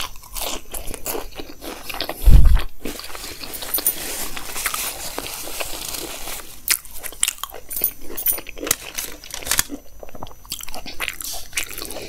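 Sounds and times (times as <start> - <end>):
chewing crispy fried food: 0.0 - 12.0.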